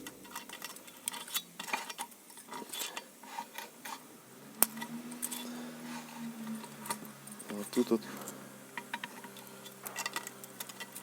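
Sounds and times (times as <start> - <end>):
faint steady hum: 0.0 - 11.0
metal blades clicking and scraping: 0.2 - 11.0.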